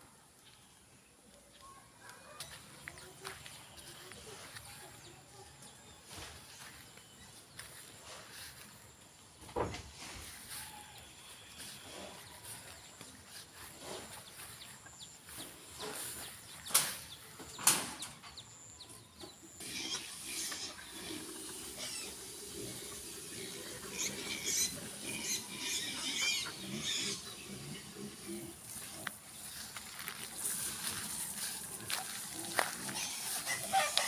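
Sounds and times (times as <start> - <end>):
birds chirping: 0.2 - 34.0.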